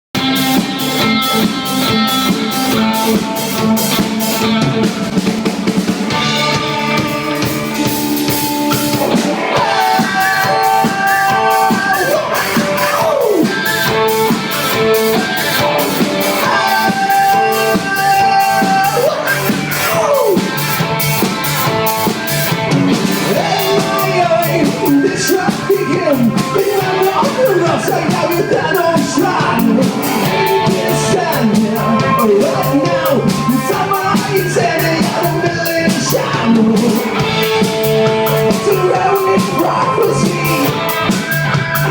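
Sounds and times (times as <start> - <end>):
live rock band playing: 0.2 - 41.9.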